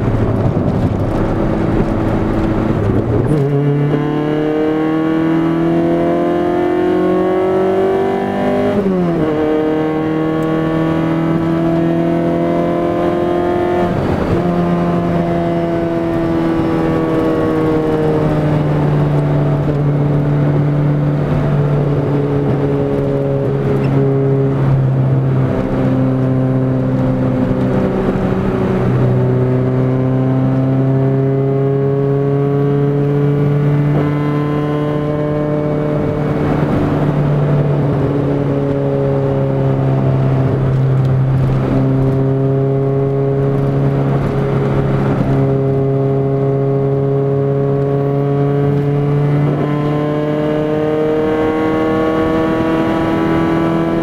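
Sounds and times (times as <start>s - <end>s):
car engine droning from inside cabin: 0.0s - 54.0s.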